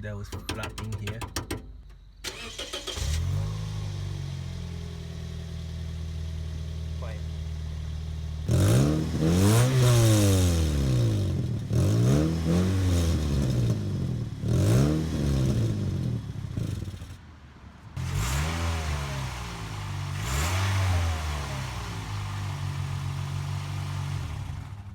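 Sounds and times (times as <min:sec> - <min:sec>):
car engine revving: 0:02.3 - 0:17.2, 0:18.0 - 0:24.9.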